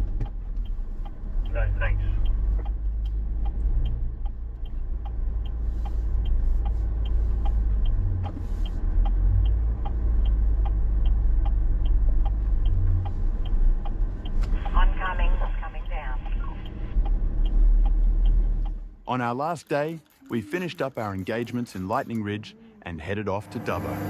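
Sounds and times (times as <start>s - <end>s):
light ticking: 0.0s - 14.8s, 15.8s - 22.4s
vehicle engine rumbling: 0.0s - 24.0s.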